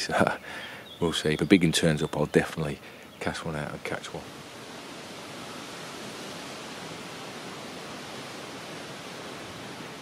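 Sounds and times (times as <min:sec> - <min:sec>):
breeze over open water: 0:00.0 - 0:10.0.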